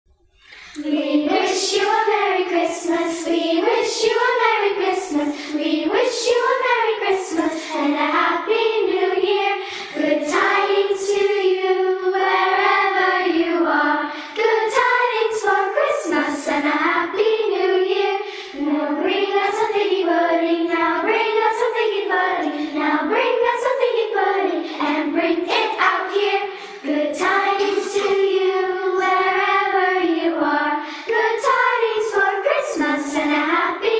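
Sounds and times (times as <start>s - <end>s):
youth choir singing: 0.5s - 33.9s.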